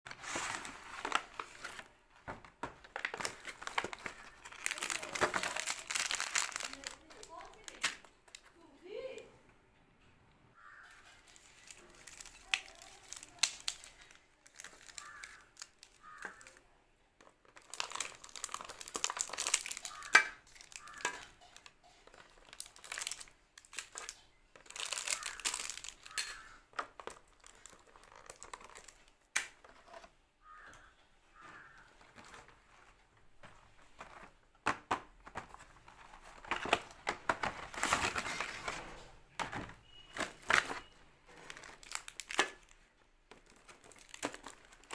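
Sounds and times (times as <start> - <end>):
plastic wrappers crinkling: 0.1 - 9.2, 10.6 - 44.9.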